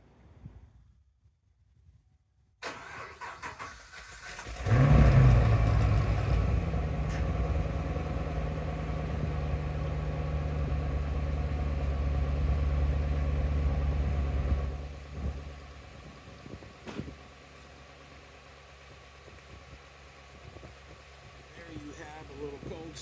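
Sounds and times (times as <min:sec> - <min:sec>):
car engine starting and idling: 0:02.6 - 0:23.0.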